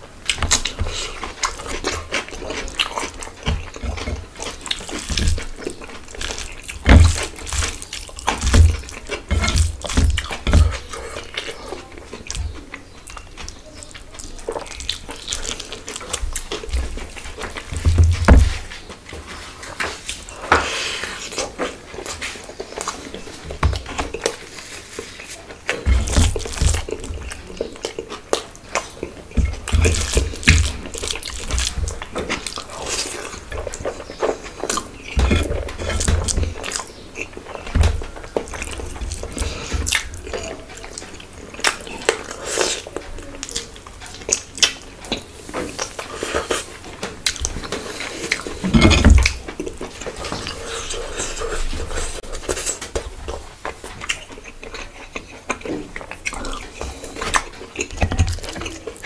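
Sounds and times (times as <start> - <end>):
wet chewing and lip smacking: 0.2 - 59.0.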